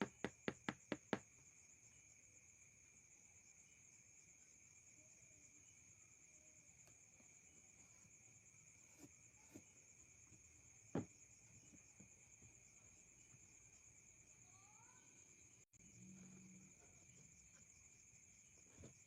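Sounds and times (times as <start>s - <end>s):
faint high-pitched hum: 1.6s - 19.0s.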